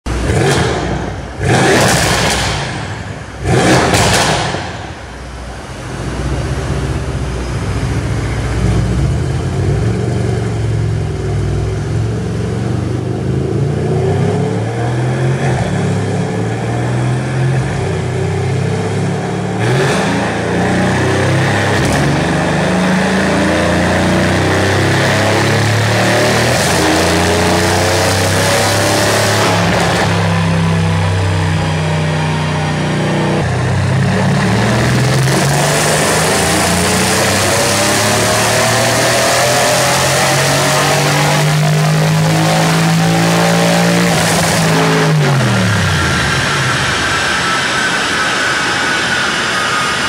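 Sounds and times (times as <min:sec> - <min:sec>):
car engine revving: 0:00.0 - 0:50.0
loud car exhaust running: 0:00.0 - 0:50.0.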